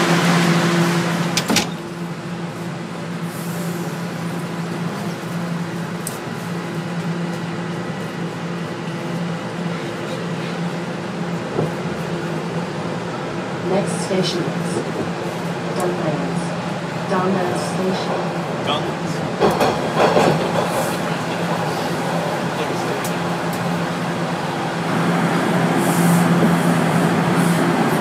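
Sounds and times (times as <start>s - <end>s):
subway car humming: 0.0s - 28.0s.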